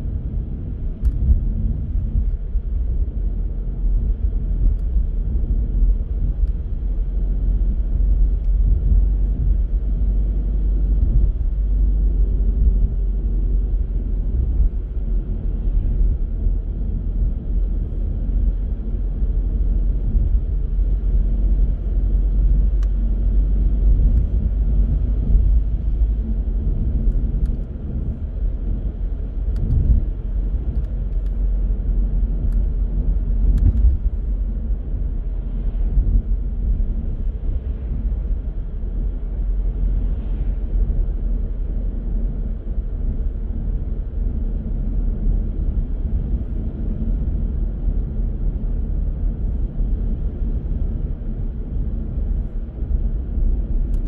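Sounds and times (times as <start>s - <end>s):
car driving road rumble: 0.0s - 54.0s.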